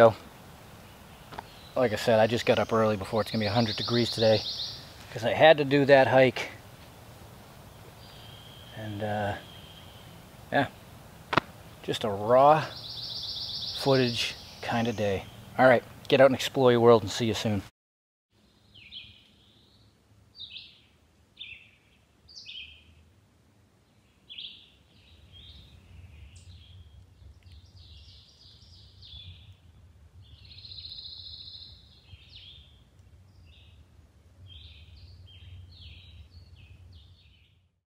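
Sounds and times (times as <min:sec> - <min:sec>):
birds singing: 0:00.0 - 0:17.6, 0:18.4 - 0:23.0, 0:23.8 - 0:33.8, 0:34.4 - 0:37.7.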